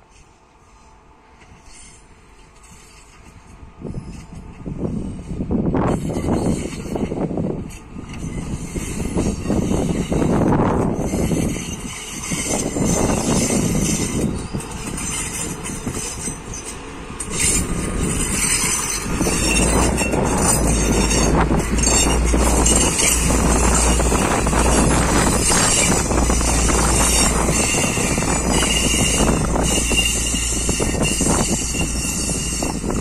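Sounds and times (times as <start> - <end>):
diesel train engines: 0.0 - 33.0
train wheels rolling on rails: 0.0 - 33.0.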